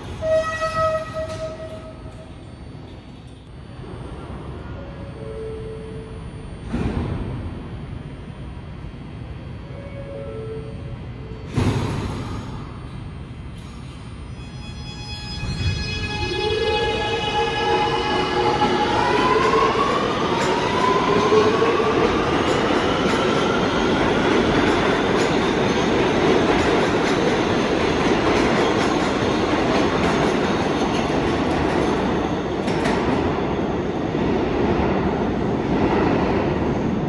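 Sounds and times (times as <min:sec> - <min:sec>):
subway train motors whining: 0:00.0 - 0:37.0.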